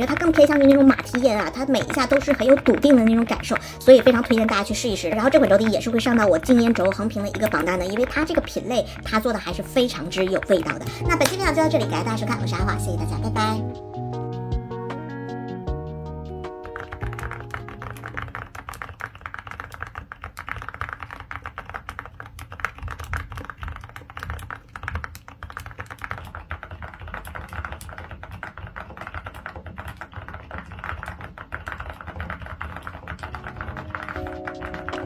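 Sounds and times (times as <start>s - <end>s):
fast typing on mechanical keyboard: 0.0s - 13.7s, 15.6s - 35.0s.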